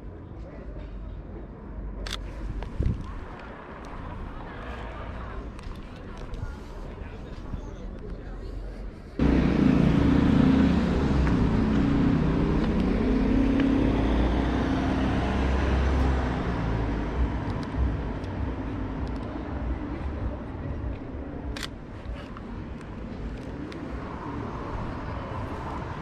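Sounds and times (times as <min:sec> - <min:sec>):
vehicle engine rumble: 0:00.5 - 0:26.0.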